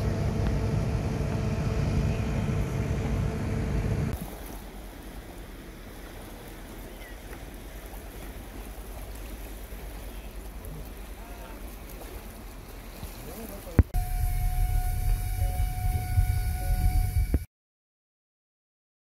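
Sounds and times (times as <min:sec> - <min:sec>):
ship engine rumbling: 0:00.0 - 0:17.5
wind and water hiss: 0:00.0 - 0:17.5.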